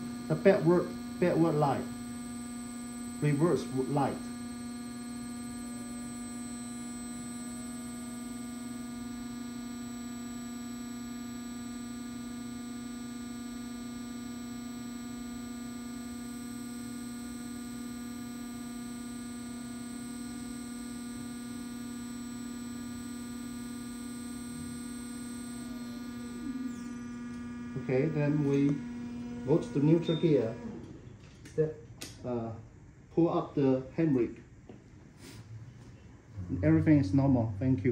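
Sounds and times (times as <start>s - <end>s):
faint high whine: 0.0s - 31.8s, 35.6s - 37.9s
electric drive humming: 0.0s - 32.7s, 36.2s - 37.9s.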